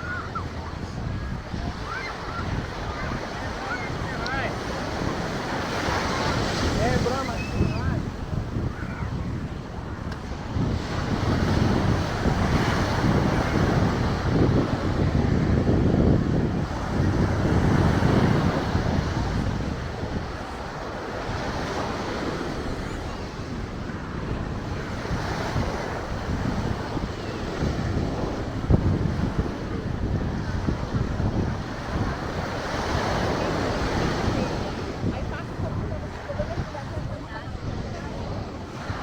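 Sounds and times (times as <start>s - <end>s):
ocean surf washing on beach: 0.0s - 39.0s
wind buffeting microphone: 0.0s - 39.0s.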